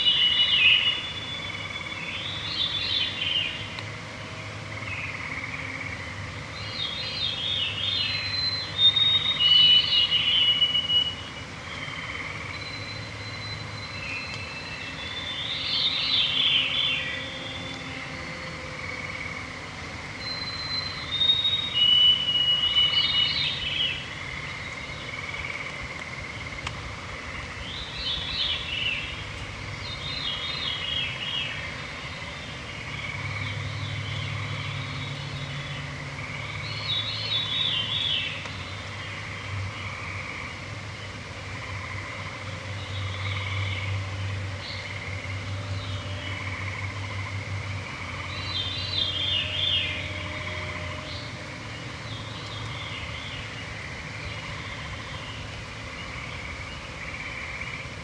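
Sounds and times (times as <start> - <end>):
bird chorus: 0.0 - 3.9, 4.7 - 58.0
cascading bird songs: 0.0 - 58.0.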